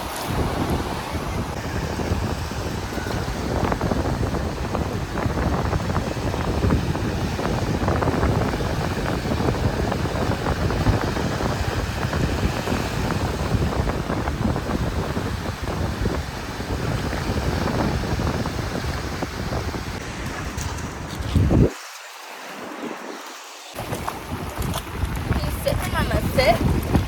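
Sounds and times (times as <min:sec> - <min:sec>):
surf washing: 0:00.0 - 0:27.0
wind buffeting microphone: 0:00.0 - 0:27.0.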